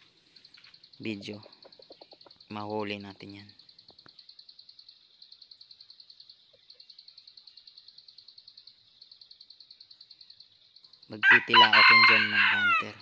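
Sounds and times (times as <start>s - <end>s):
insect pulsed trill: 0.0s - 13.0s.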